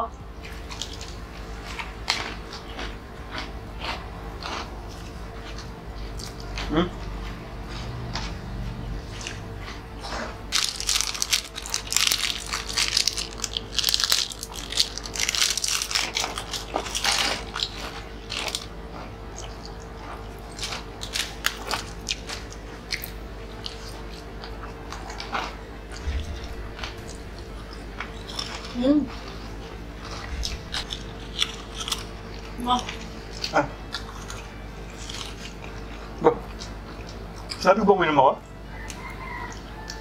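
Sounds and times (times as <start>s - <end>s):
steady low hum: 0.0s - 40.0s
crunching crispy snacks: 0.5s - 7.0s, 10.5s - 37.7s.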